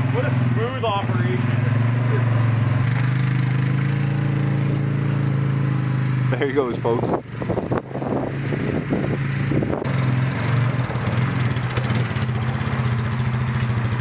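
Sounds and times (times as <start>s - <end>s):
atv engine droning: 0.0s - 14.0s.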